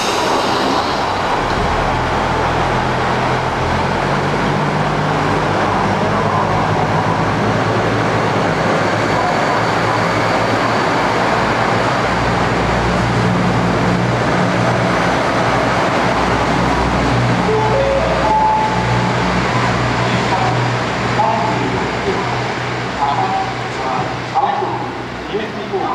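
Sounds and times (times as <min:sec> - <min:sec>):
diesel railcar engine running: 0:00.0 - 0:25.9
wheels rumbling on rails: 0:00.0 - 0:25.9.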